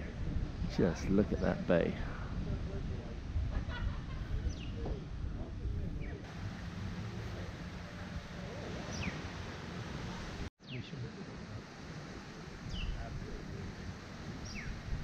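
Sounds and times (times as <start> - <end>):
wind-like noise with low rumble: 0.0 - 15.0.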